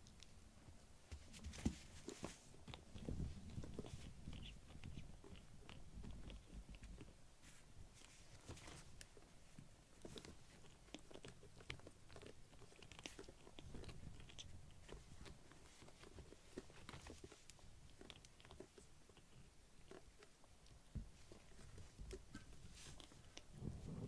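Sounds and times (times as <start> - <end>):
kittens playing: 0.0 - 24.0.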